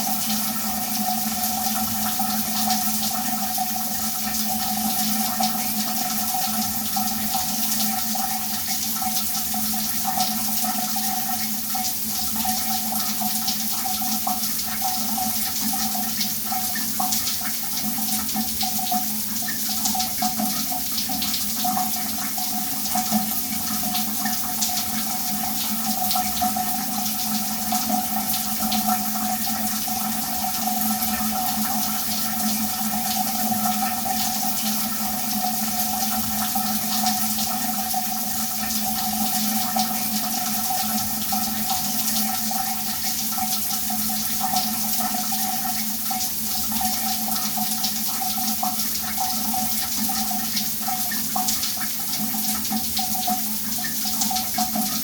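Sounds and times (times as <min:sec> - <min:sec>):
shower water running: 0:00.0 - 0:55.0.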